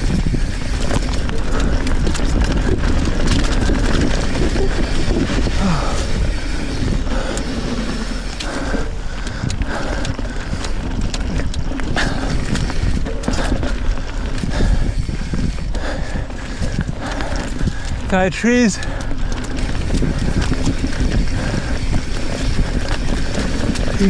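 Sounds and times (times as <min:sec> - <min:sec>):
bike chain and frame rattling: 0:00.0 - 0:24.0
steady low rumble: 0:00.0 - 0:24.0
tyres rolling over dirt: 0:00.0 - 0:24.0.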